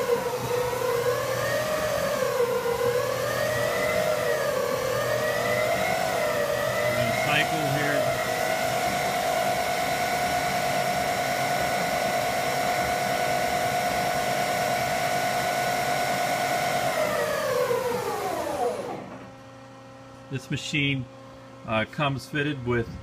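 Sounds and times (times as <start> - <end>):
lathe spindle whining: 0.0 - 19.3.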